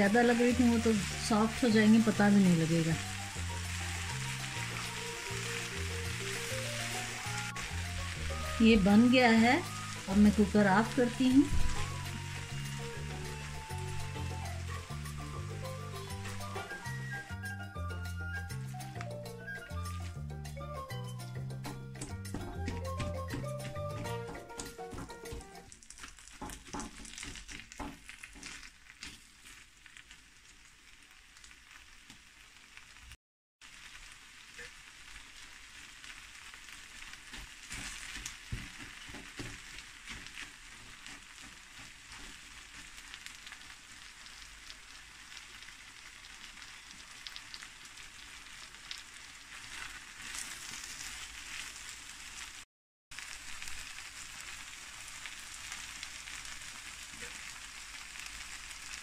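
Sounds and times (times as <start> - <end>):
food sizzling in a hot pan: 0.0 - 21.7, 22.3 - 59.0.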